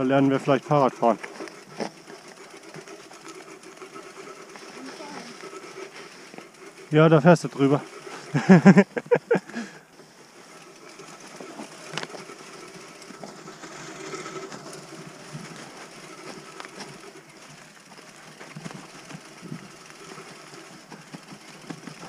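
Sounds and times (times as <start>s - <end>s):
bike tyres rustling over leaves: 0.0s - 22.0s.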